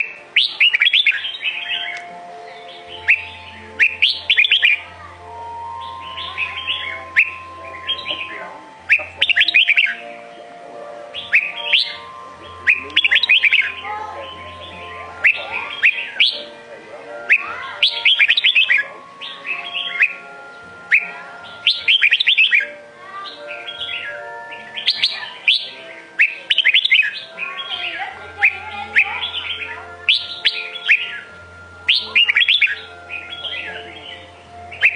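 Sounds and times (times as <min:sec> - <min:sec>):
bulbul chirping song: 0:00.0 - 0:34.9.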